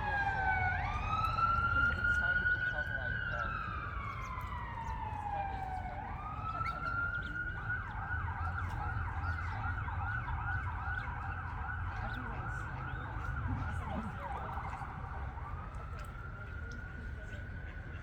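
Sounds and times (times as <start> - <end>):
emergency vehicle siren: 0.0 - 18.0.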